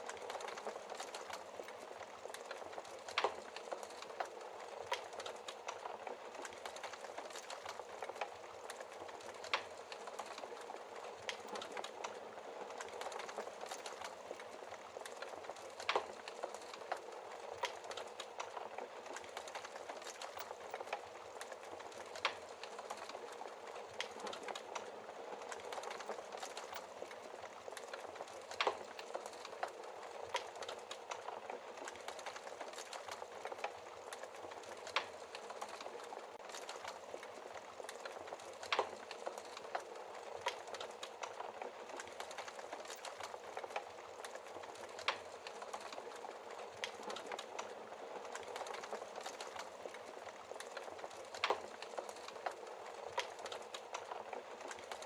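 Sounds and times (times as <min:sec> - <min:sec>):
wood fire crackling and hissing: 0:00.0 - 0:55.0.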